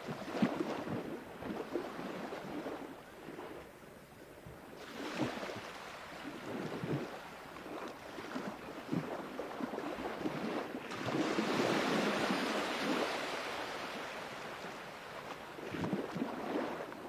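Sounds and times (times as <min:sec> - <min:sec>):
sea waves washing ashore: 0:00.0 - 0:03.8, 0:04.7 - 0:17.0.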